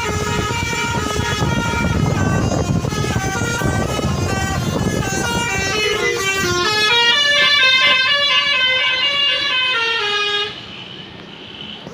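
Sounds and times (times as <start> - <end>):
bus horn playing a melody: 0.0 - 10.7.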